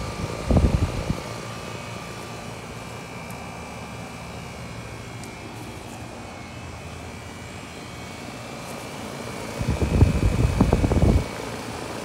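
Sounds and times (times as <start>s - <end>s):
air conditioner unit running: 0.0s - 12.0s
faint high whine: 0.0s - 12.0s
fan air buffeting microphone: 0.0s - 12.0s.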